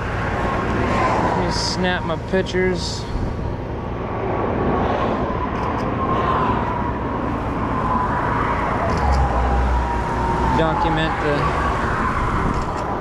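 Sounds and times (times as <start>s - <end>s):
highway traffic rushing: 0.0s - 13.0s
vehicle whine passing: 0.0s - 13.0s.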